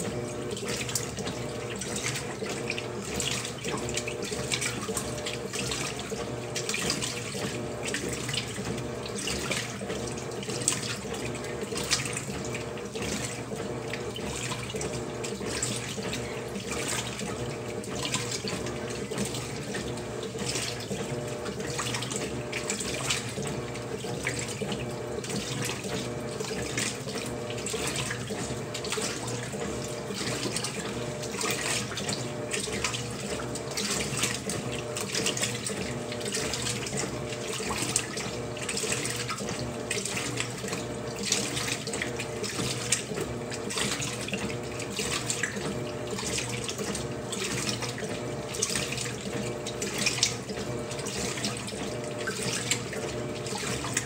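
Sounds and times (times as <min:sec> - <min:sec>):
motor hum: 0:00.0 - 0:54.0
water sloshing in washing machine: 0:00.0 - 0:54.0.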